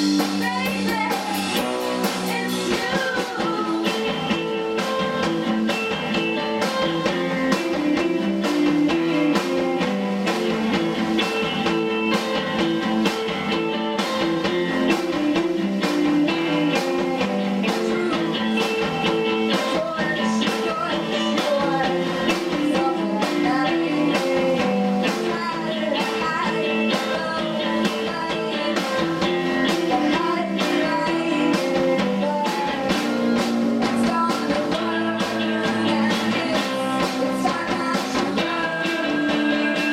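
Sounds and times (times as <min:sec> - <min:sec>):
bass guitar: 0:00.0 - 0:39.9
distorted electric guitars: 0:00.0 - 0:39.9
drum kit beat: 0:00.0 - 0:39.9.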